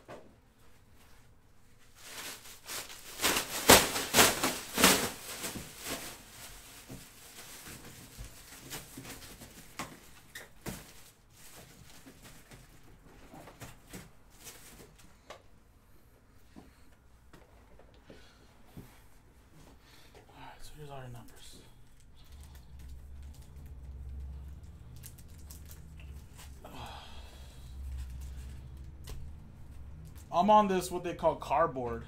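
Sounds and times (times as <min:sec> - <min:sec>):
things being handled rustling: 0:00.1 - 0:15.6, 0:16.4 - 0:30.4.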